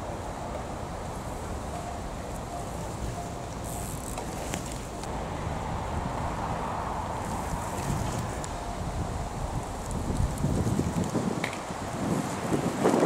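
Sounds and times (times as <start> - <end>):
bicycle passing: 0.0 - 13.0
wind rumble on microphone: 0.0 - 13.0.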